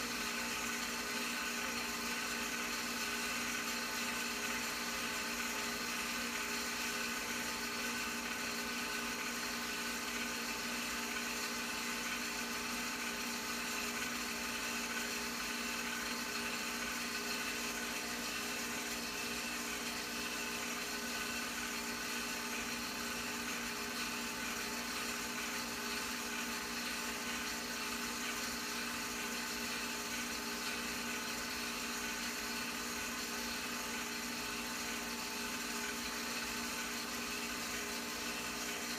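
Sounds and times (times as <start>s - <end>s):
film projector motor whirring: 0.0s - 38.9s.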